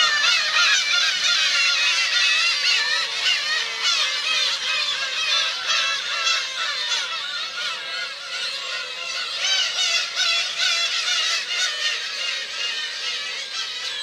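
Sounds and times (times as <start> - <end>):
gull colony calling: 0.0 - 14.0.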